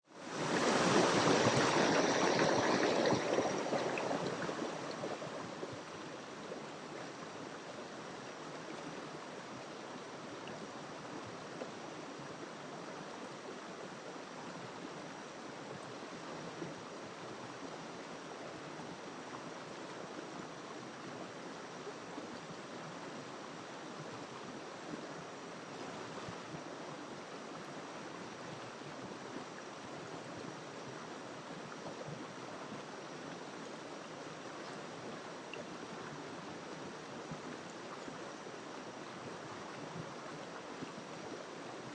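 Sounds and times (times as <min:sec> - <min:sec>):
river water rushing: 0:00.1 - 0:41.9.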